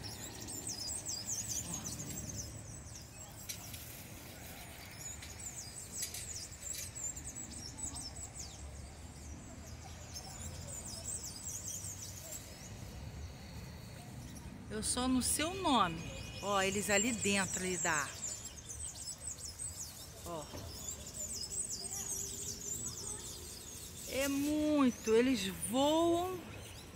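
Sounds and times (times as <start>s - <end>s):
flock of birds chirping: 0.0s - 26.9s.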